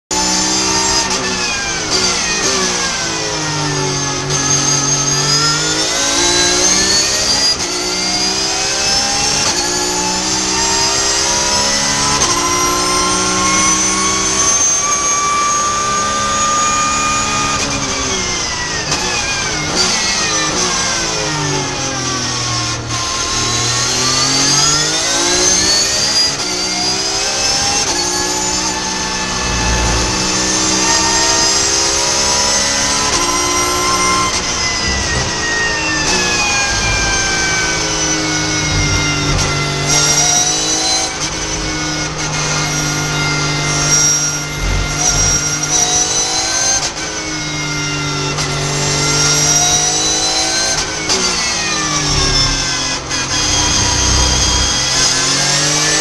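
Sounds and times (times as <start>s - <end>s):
race car engine revving: 4.0s - 47.4s, 48.4s - 56.0s.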